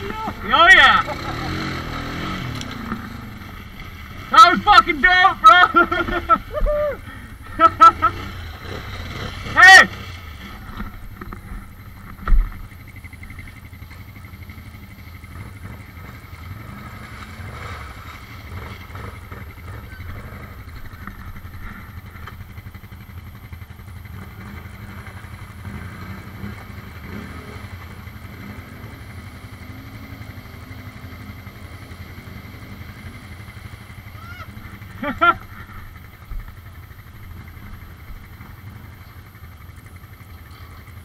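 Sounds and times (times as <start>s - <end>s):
atv engine running: 0.0s - 41.0s.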